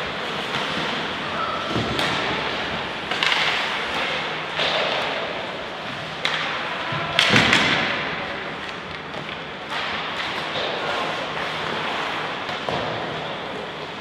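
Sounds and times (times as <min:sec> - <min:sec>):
puck and sticks thudding on boards: 0:00.0 - 0:14.0.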